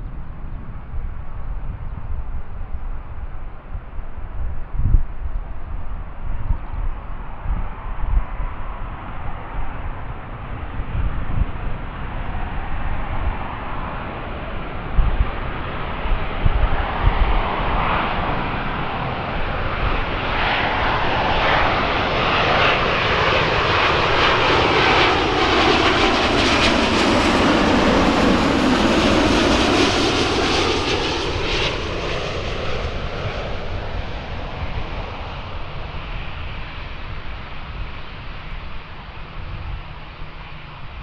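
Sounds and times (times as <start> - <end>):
jet airliner passing: 0.0 - 41.0.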